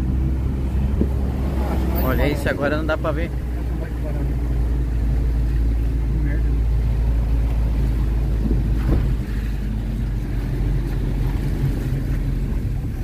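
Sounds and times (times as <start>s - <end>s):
car engine and tyre hum: 0.0s - 13.0s.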